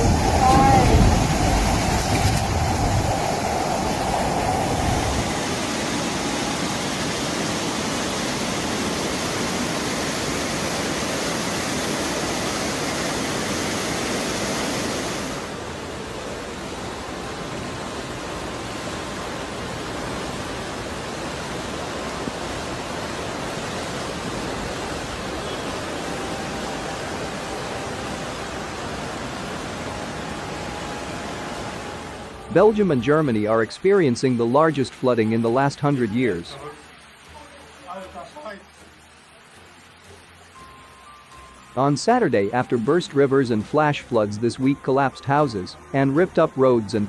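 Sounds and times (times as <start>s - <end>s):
floodwater rushing: 0.0s - 47.0s.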